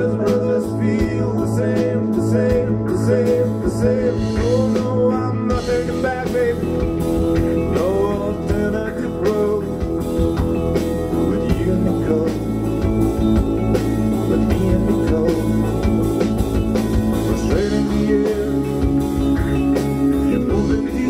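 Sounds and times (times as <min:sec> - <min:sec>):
man singing: 0:00.0 - 0:10.1, 0:11.0 - 0:13.3, 0:14.1 - 0:16.4, 0:17.0 - 0:21.0
live rock band: 0:00.0 - 0:21.0.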